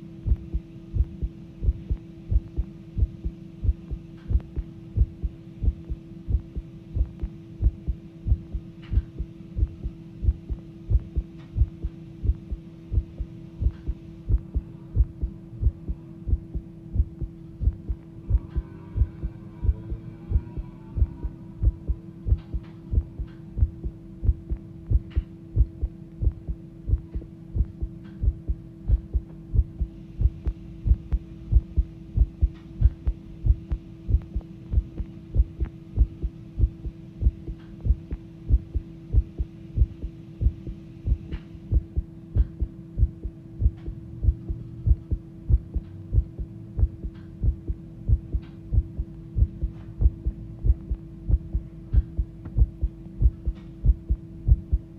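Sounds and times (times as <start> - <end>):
steady low hum: 0.0 - 54.9
heart beating fast: 0.2 - 54.9.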